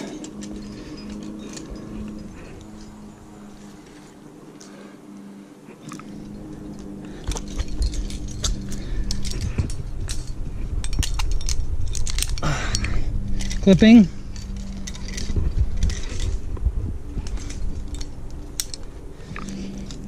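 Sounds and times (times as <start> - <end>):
climbing gear clinking: 0.0 - 20.0
faint steady hum: 0.0 - 20.0.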